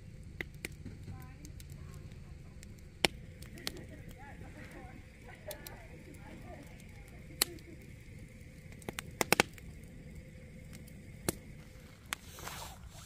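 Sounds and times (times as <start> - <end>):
fire popping: 0.0 - 13.0
log fire crackling: 0.0 - 13.0.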